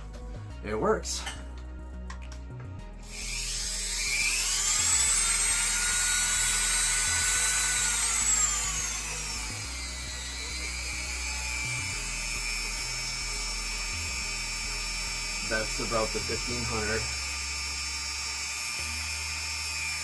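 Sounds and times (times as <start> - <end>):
rotary tool motor whine: 3.0 - 20.0.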